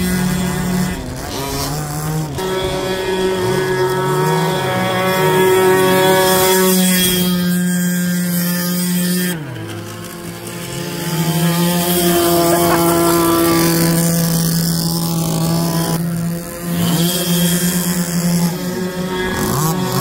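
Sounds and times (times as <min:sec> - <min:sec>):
small two-stroke engines revving: 0:00.0 - 0:20.0.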